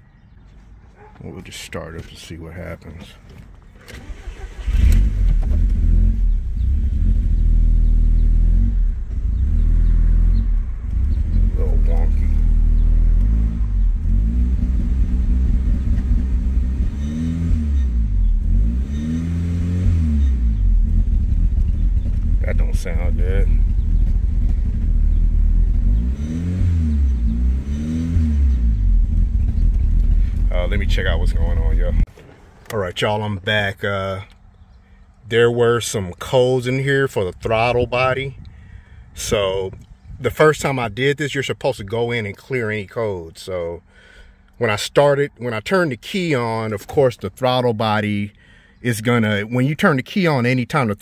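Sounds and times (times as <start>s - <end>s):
car engine starting and idling: 0.3s - 50.8s.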